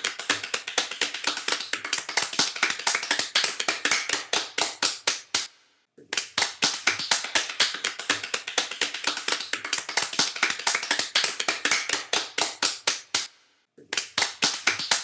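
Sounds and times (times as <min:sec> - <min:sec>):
hands clapping: 0:00.0 - 0:15.0.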